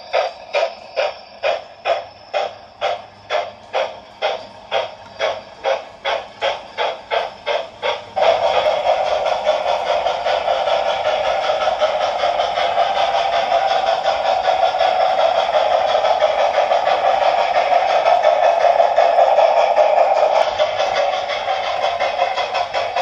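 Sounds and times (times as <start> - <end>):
model steam locomotive exhaust chuffs: 0.0 - 23.0.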